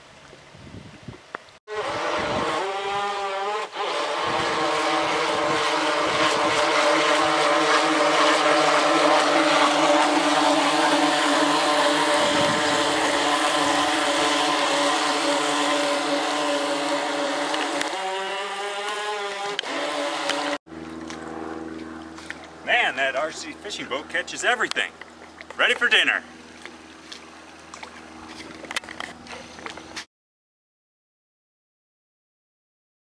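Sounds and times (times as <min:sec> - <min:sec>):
model boat motor whining: 0:01.7 - 0:30.1.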